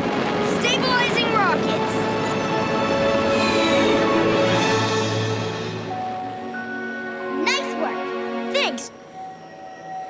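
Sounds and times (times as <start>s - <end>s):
shimmering sustained orchestral music: 0.0s - 10.0s.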